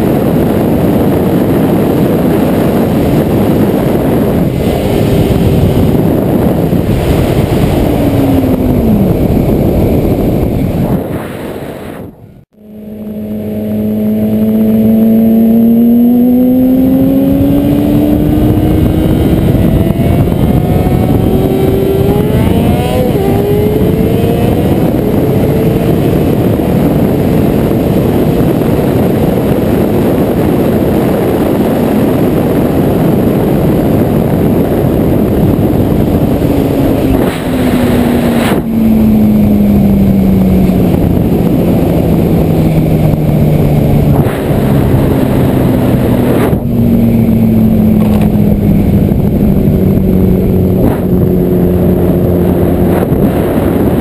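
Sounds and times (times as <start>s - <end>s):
motorcycle engine accelerating: 0.0s - 54.0s
wind noise on microphone: 0.0s - 54.0s.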